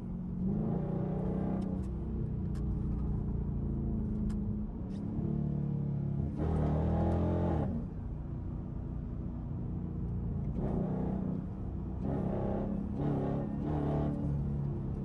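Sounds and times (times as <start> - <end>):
loud car exhaust while driving: 0.0 - 15.0.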